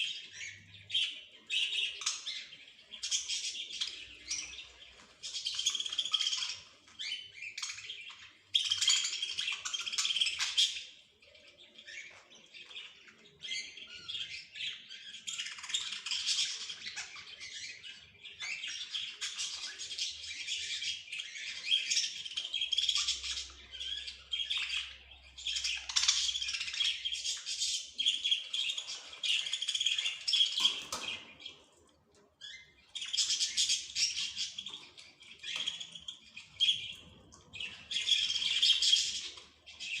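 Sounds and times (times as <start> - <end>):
small birds twittering: 0.0 - 40.0.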